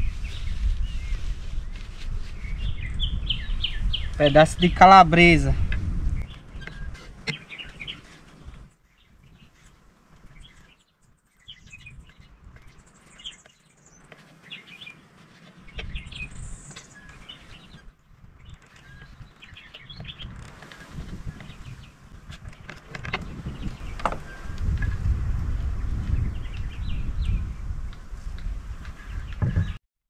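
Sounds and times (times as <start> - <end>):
birds chirping: 0.0 - 28.0, 28.6 - 29.8.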